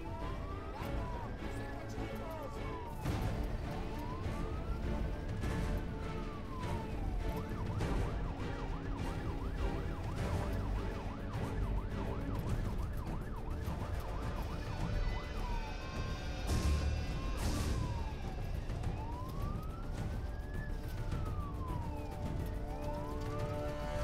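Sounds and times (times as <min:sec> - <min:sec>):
electronic siren: 0:00.0 - 0:24.0
vehicle engine and road rumble: 0:00.0 - 0:24.0.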